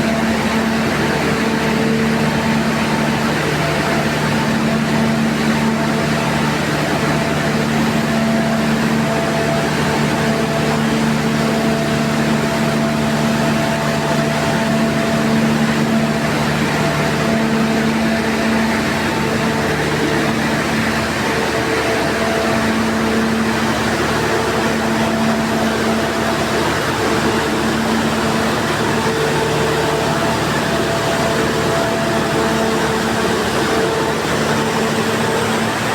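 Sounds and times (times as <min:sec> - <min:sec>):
machinery running: 0:00.0 - 0:35.9
steady machine hums: 0:00.0 - 0:35.9.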